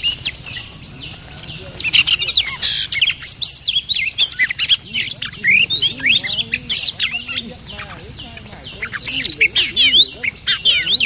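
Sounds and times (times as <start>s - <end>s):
birds singing rapid whistles: 0.0s - 11.0s.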